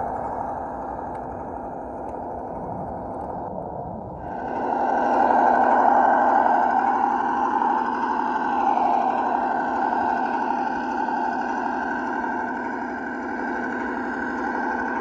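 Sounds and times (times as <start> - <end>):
simulated truck engine from speaker: 0.0 - 15.0.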